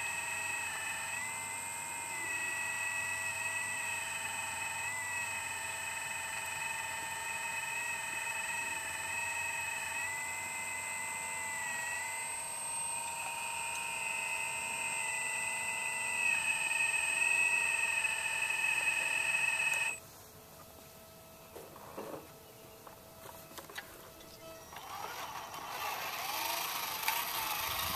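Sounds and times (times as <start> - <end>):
electric motors whining: 0.0 - 20.0, 23.3 - 27.9.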